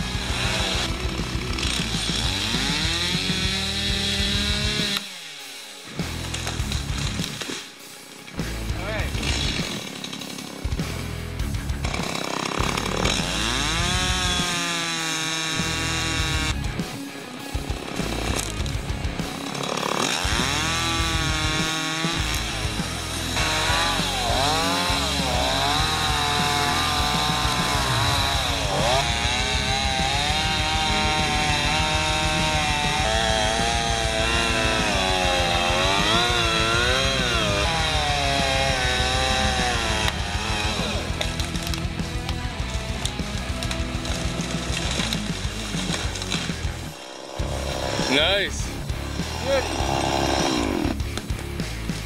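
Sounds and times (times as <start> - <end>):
chainsaw cutting into tree: 0.0 - 5.4, 9.2 - 11.0, 11.8 - 16.7, 17.4 - 48.2, 48.8 - 51.1.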